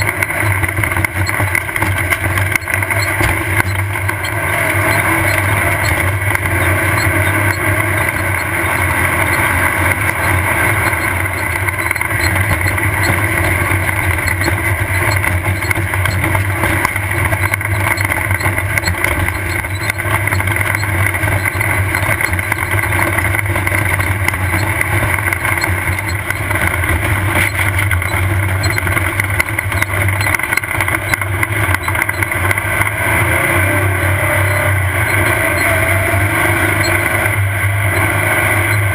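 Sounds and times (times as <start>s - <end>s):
buggy engine droning: 0.0s - 38.9s
sharp ticks and knocks: 0.0s - 38.9s.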